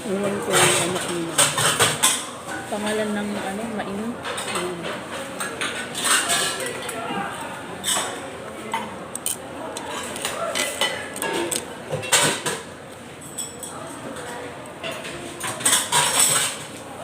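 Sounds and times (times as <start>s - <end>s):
murmur of voices: 0.0s - 17.0s
cutlery clinking on dishes: 0.5s - 3.1s, 4.2s - 7.2s, 7.8s - 16.8s.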